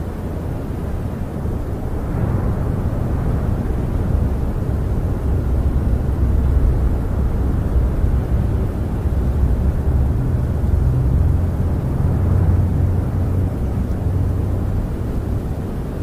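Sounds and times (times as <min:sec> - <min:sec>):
deep rumble of storm wind: 0:00.0 - 0:16.0.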